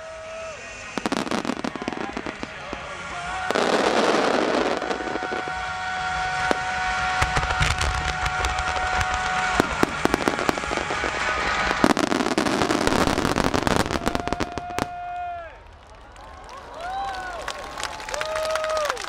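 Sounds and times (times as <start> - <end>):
deep fireworks booms: 0.0 - 16.9
fireworks crackling: 0.0 - 19.0.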